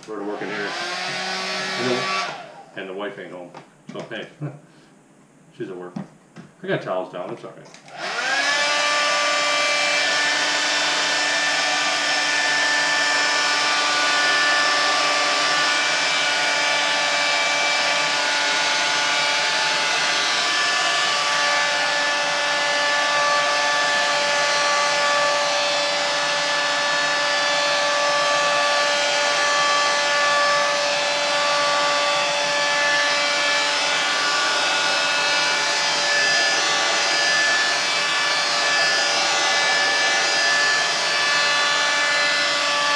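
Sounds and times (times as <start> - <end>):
heat gun fan rushing: 0.0 - 2.9, 7.8 - 42.9
heat gun motor whine: 0.2 - 2.7, 7.9 - 42.9.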